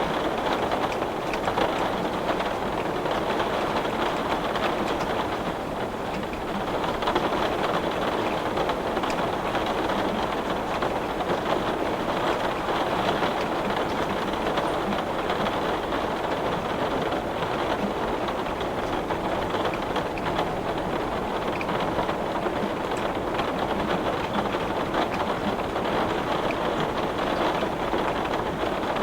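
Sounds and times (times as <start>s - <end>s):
heavy rain on glass: 0.0s - 29.0s.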